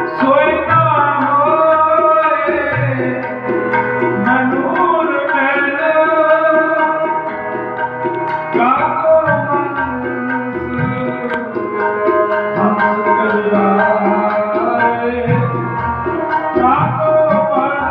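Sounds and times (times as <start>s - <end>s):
harmonium chords: 0.0s - 17.9s
tabla playing a rhythm: 0.0s - 17.9s.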